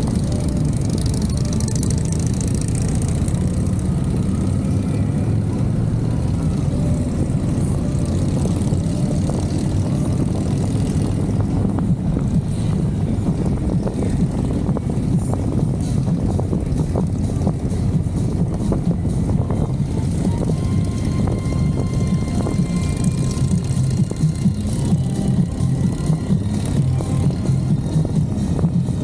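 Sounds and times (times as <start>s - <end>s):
motorcycle engines rumbling: 0.0s - 29.0s
wind noise: 0.0s - 29.0s.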